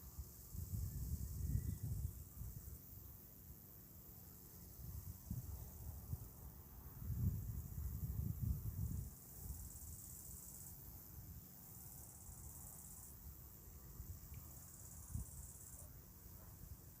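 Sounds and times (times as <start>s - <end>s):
faint insect trilling: 0.0s - 17.0s.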